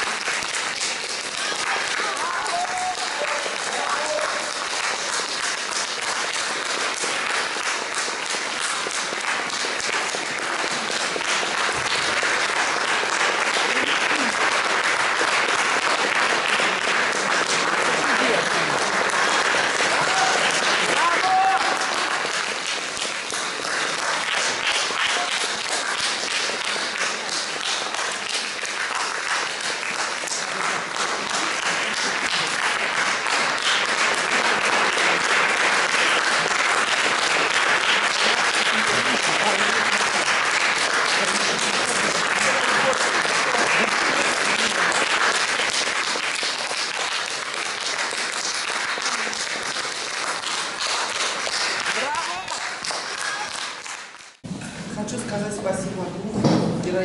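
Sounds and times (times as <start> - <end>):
audience applauding: 0.0 - 54.4.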